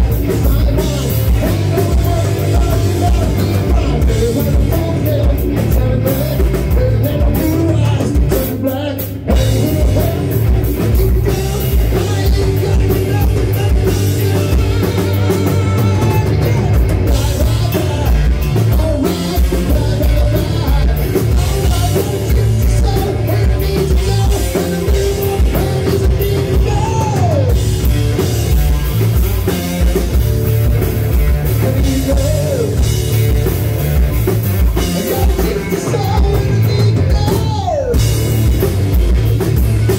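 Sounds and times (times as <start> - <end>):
person singing: 0.0 - 27.6, 31.5 - 33.0, 34.8 - 38.2
bass guitar: 0.0 - 39.9
drum kit: 0.0 - 39.9
electric guitars: 0.0 - 39.9.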